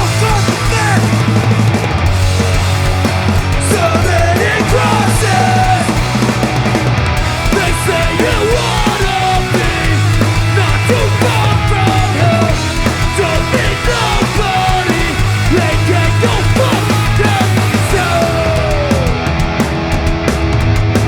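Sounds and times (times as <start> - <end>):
bass guitar: 0.0 - 21.0
distorted electric guitars: 0.0 - 21.0
drum kit: 0.0 - 21.0.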